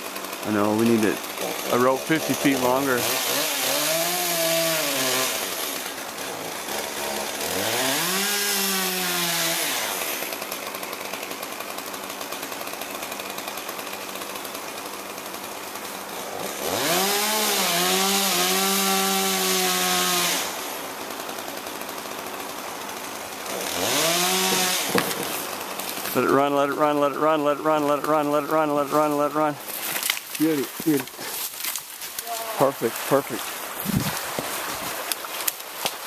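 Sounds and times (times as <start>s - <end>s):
chainsaw idling and revving: 0.0s - 36.0s.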